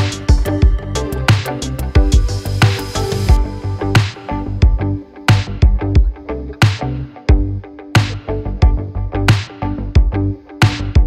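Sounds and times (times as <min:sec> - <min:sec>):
music with drums and plucked notes: 0:00.0 - 0:11.0.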